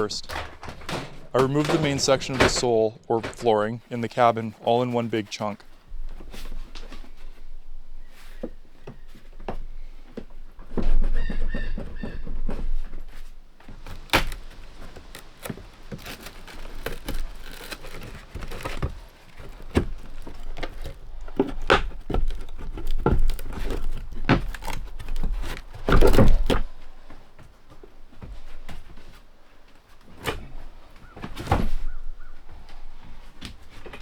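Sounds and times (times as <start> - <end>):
wood and tools knocking and clattering: 0.0 - 34.0.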